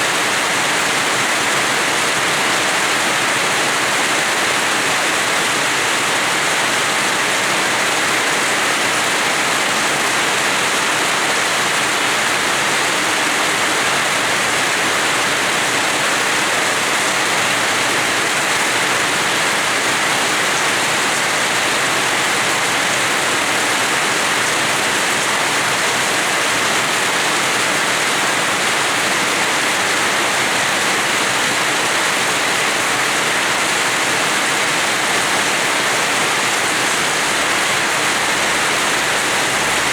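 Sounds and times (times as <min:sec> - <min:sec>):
steady rain hiss: 0:00.1 - 0:39.9.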